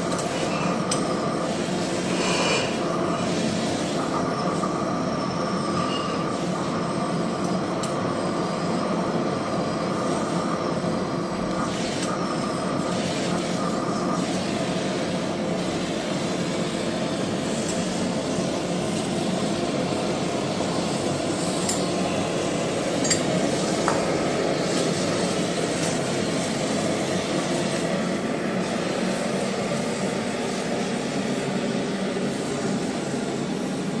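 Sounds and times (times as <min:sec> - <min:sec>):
welding torch flame rushing: 0:00.0 - 0:34.0.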